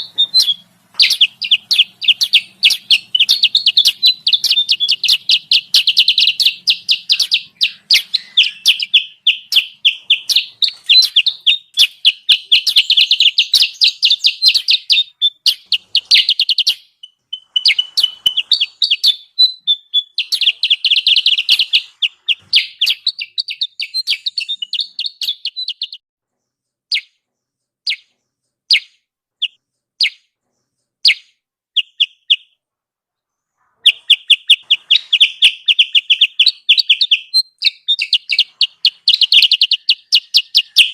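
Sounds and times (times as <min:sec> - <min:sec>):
bird chattering notes: 0:00.0 - 0:26.0, 0:33.8 - 0:40.9.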